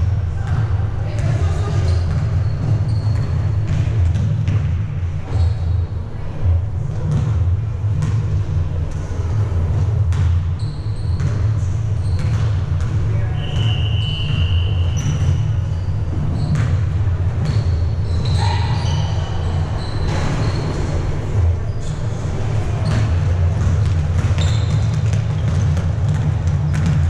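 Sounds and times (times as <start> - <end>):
basketball bouncing on court: 0.0 - 5.8, 6.5 - 27.0
sneakers squeaking: 0.1 - 27.0.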